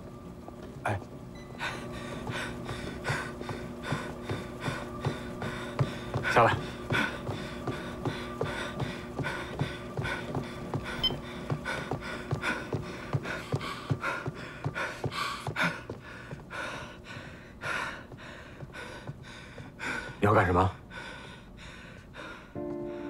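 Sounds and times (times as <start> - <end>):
footfalls running on treadmill: 0.0 - 23.0
heavy panting: 1.6 - 23.0.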